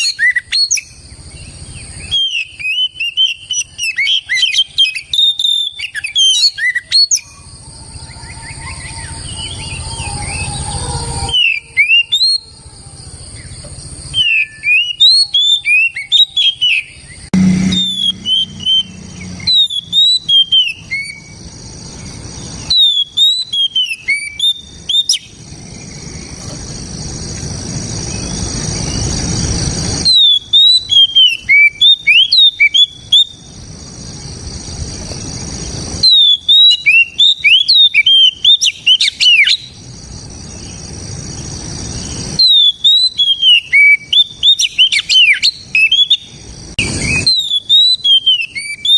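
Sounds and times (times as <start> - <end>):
bird whistled song: 0.0 - 12.5, 13.2 - 26.6, 28.0 - 33.6, 34.6 - 48.9.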